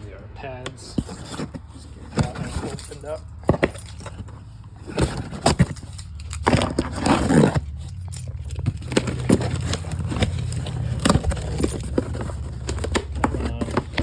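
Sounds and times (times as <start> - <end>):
cardboard box being unpacked: 0.8 - 14.0.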